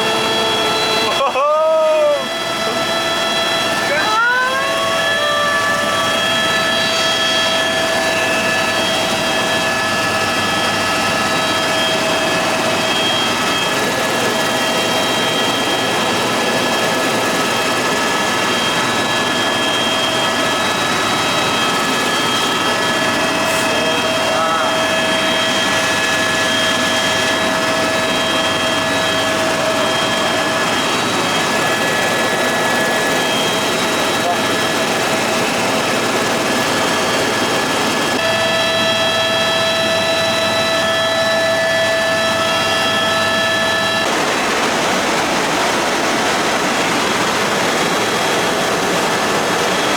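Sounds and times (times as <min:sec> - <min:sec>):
helicopter engine and rotor noise: 0:00.0 - 0:49.9.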